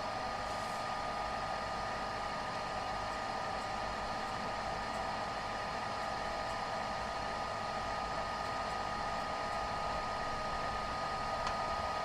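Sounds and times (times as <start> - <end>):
computer hum and whir: 0.0 - 12.0.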